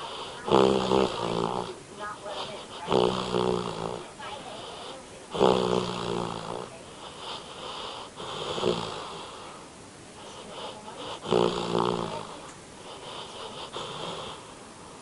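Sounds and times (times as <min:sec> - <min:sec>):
dog snoring: 0:00.0 - 0:09.6, 0:10.2 - 0:14.6.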